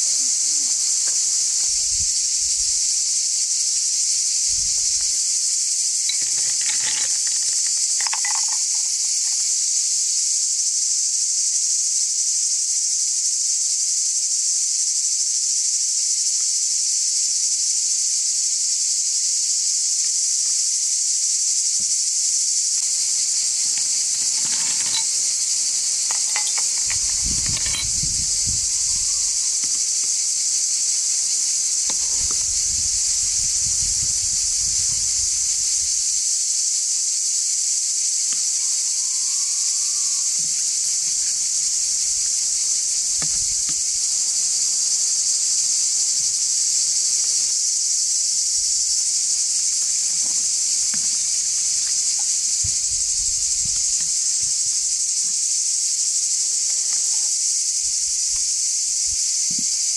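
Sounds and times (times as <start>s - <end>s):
high-pitched insects chorus: 0.0s - 59.9s.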